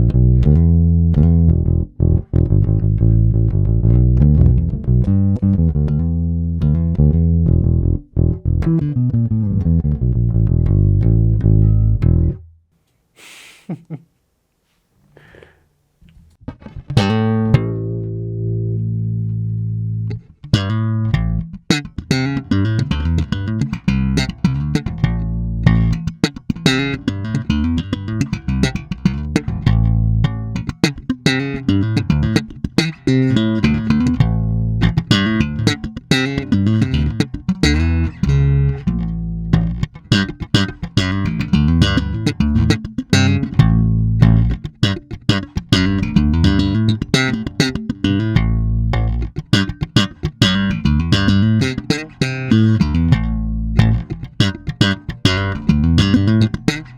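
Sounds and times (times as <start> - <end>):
electric bass playing: 0.0 - 12.6, 16.4 - 56.9.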